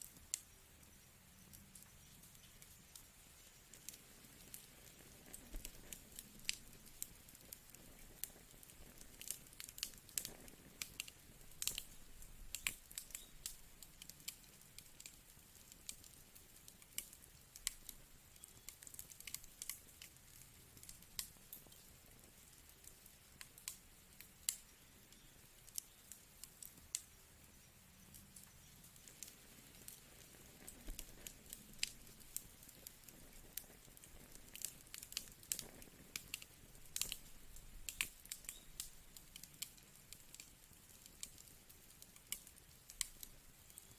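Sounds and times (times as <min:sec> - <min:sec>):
faint fire hiss: 0:00.0 - 0:43.9
wood fire crackling: 0:00.0 - 0:43.9.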